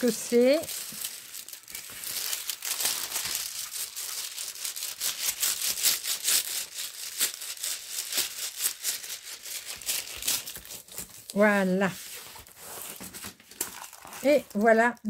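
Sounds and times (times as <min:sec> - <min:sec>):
plastic sheet crinkling: 0:00.0 - 0:15.0.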